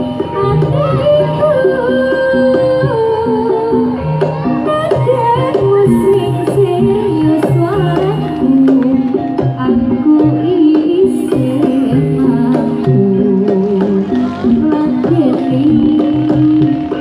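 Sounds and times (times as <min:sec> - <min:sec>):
gamelan melody: 0:00.0 - 0:17.0
hand drums: 0:00.0 - 0:17.0.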